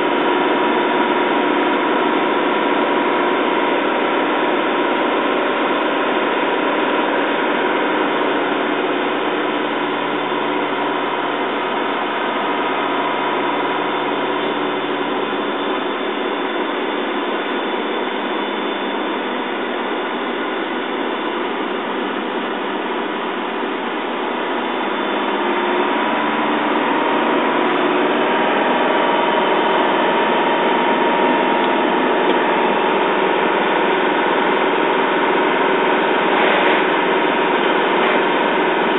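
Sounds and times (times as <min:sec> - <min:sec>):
road and cab noise: 0:00.0 - 0:38.9
truck diesel engine running: 0:00.0 - 0:38.9.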